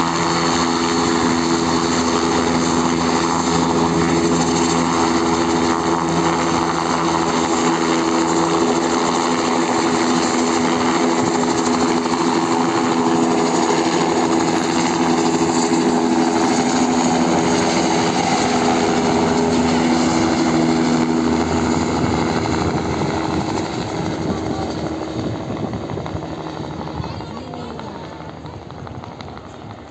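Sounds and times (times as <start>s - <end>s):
helicopter engine and rotor: 0.0s - 29.9s
multi-tone hum: 0.0s - 29.9s.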